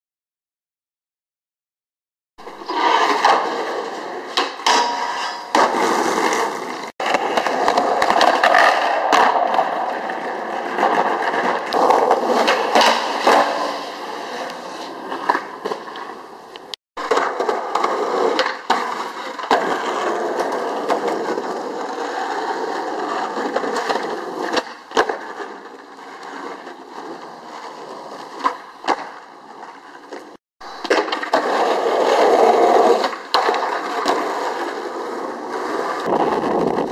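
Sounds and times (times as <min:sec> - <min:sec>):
skateboard clacking on ground: 0:02.4 - 0:36.9
skateboard wheels rolling on concrete: 0:02.4 - 0:36.9.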